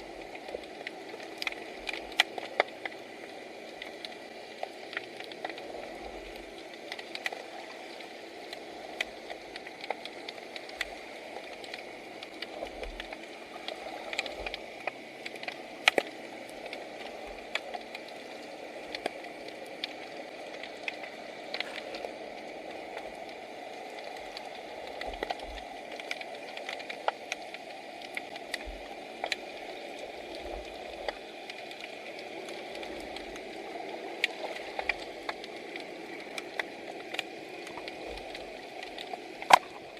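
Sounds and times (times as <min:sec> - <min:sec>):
muffled underwater water noise: 0:00.0 - 0:39.9
sharp underwater clicks and crackles: 0:00.0 - 0:39.9.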